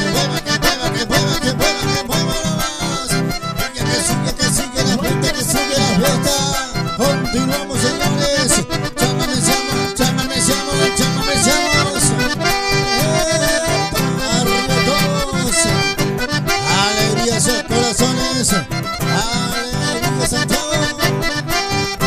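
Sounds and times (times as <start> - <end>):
button accordion melody: 0.0 - 22.0
strummed acoustic guitar: 0.0 - 22.0.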